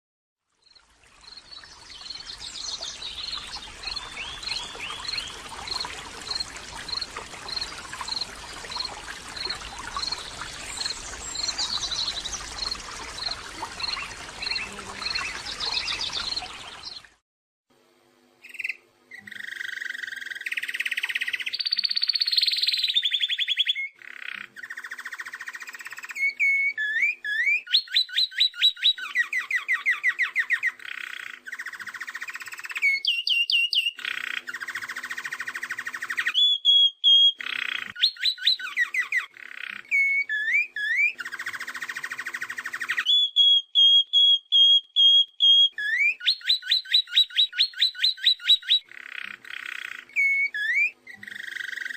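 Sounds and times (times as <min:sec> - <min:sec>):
songbird singing: 0:00.6 - 0:17.1, 0:18.4 - 0:51.9.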